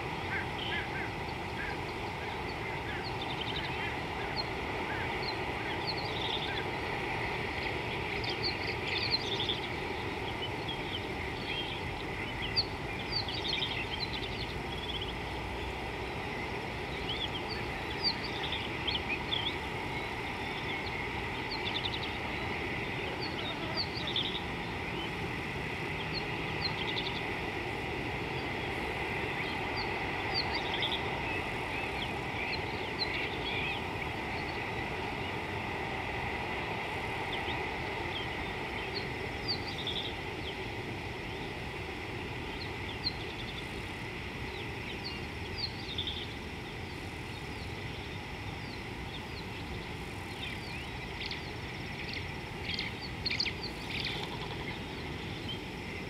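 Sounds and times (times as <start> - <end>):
small birds chirping: 0.0 - 56.0
steady background hiss: 0.0 - 56.0.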